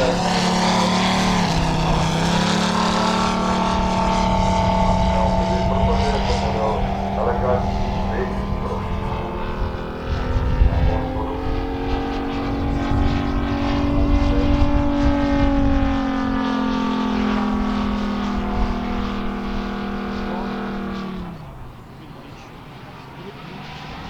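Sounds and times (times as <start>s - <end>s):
model airplane engine drone: 0.0s - 24.0s.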